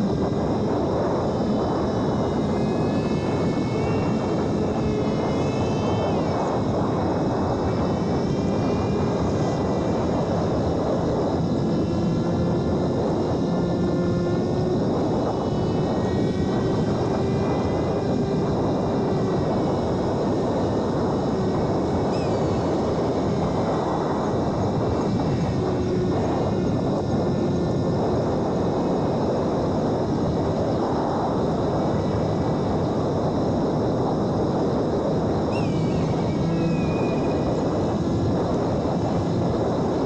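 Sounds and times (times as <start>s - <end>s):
electric motor and propeller whine: 0.0s - 40.0s
steady rushing noise: 0.0s - 40.0s.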